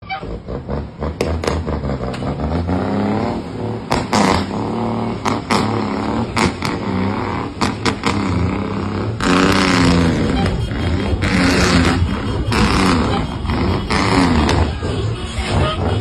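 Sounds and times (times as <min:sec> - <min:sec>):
sharp exhaust cracks: 0:00.0 - 0:16.0
truck engine revving: 0:00.0 - 0:16.0.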